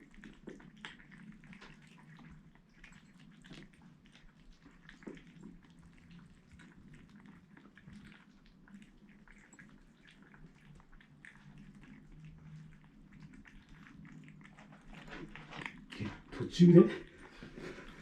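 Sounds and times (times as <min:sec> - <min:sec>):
kittens eating wet food: 0:00.0 - 0:18.0.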